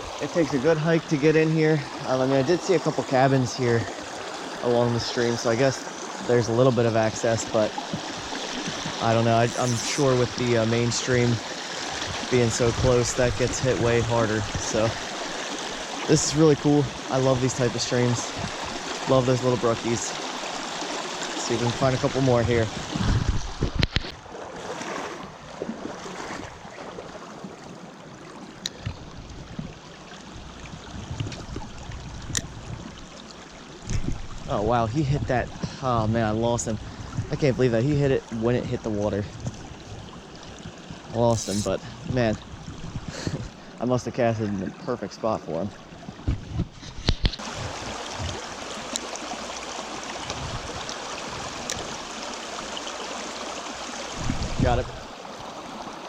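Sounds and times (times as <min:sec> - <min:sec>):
mountain stream running: 0:00.0 - 0:56.0.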